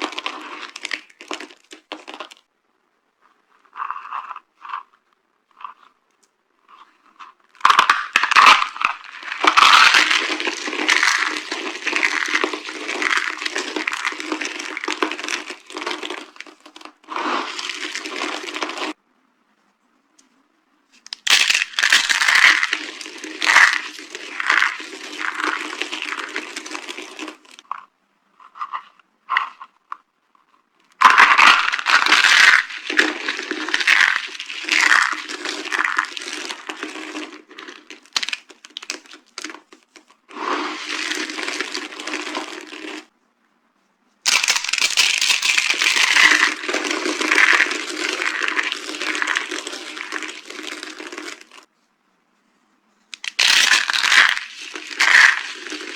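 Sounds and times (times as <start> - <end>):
soap crunching and crackling: 0.0 - 2.5, 3.2 - 6.0, 6.6 - 19.0, 21.0 - 43.1, 44.3 - 51.7, 53.2 - 55.9.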